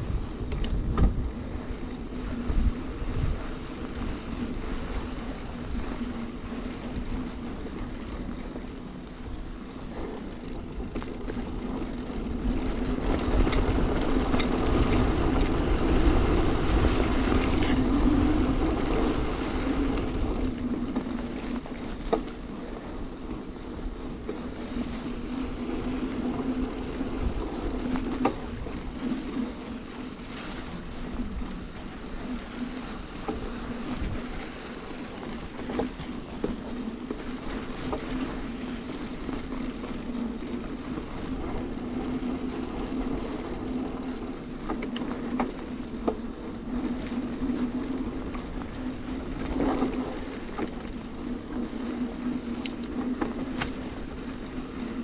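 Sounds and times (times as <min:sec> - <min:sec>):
bicycle tyres humming on dirt: 0:00.0 - 0:55.0
bike clicks and rattles: 0:00.0 - 0:55.0.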